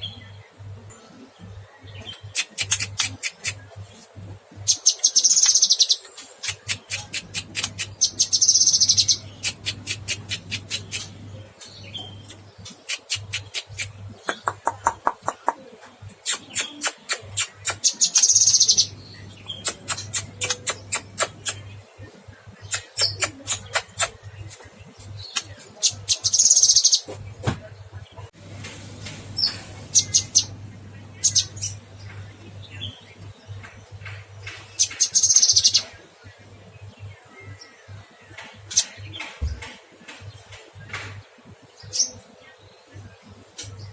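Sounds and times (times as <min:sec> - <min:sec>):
bird chattering song: 0:00.0 - 0:28.3, 0:29.4 - 0:43.9.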